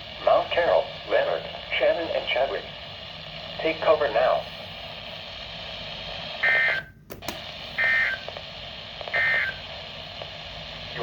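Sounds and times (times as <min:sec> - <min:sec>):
receiver hiss: 0:00.0 - 0:11.0.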